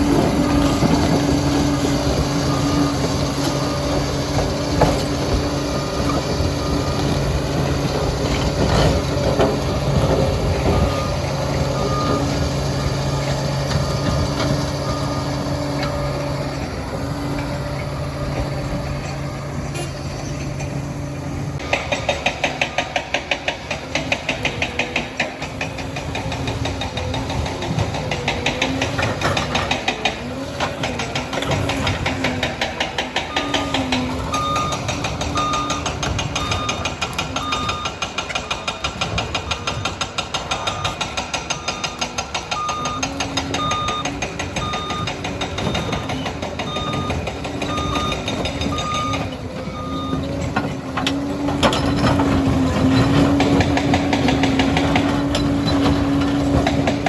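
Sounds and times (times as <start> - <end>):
diesel engine running under load: 0.0 - 57.0
metallic clanking of steel tracks: 0.0 - 57.0.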